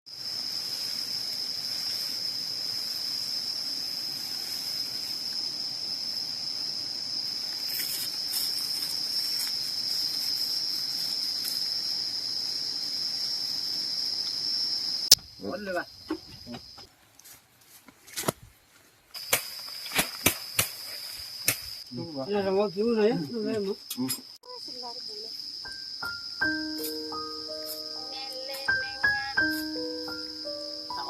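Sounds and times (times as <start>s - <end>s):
shrill insect chorus: 0.1s - 16.9s, 19.2s - 31.0s.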